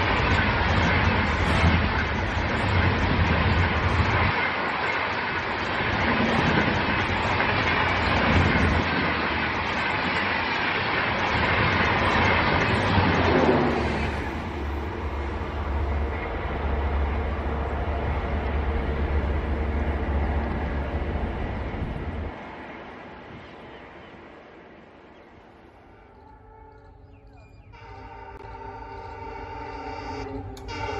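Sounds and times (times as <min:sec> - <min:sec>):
train passing at speed: 0:00.0 - 0:30.9.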